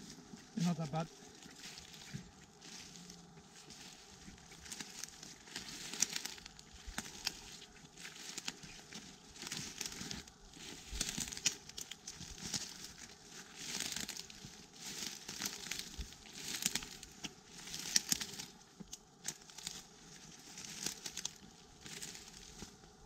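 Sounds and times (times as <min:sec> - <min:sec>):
woodland debris rustling and crackling: 0:00.0 - 0:23.0.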